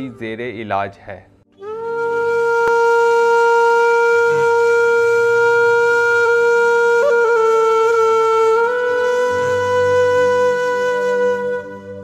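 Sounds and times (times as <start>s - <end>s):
long flute-like note: 1.5s - 12.0s.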